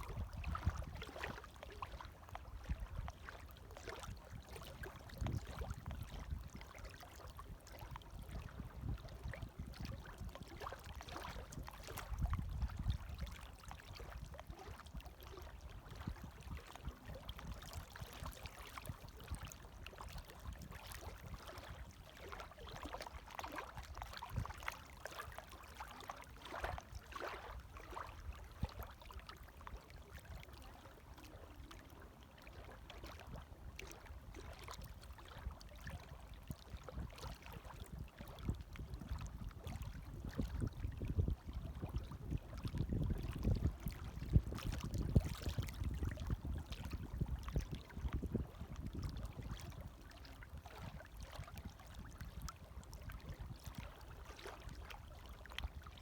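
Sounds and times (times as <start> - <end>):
low surge of water: 0.0 - 56.0
small waves lapping: 0.0 - 56.0.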